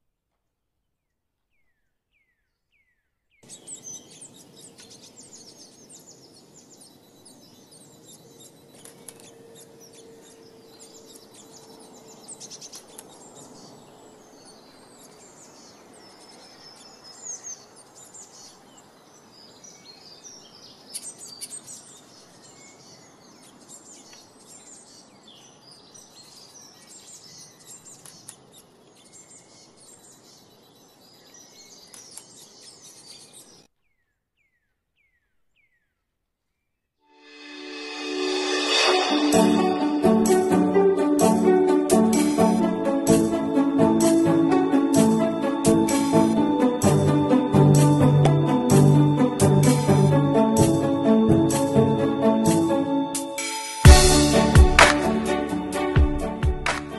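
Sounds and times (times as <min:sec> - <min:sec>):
low outdoor background noise: 0:00.0 - 0:56.9
small songbirds chirping: 0:00.9 - 0:36.8, 0:37.4 - 0:56.9.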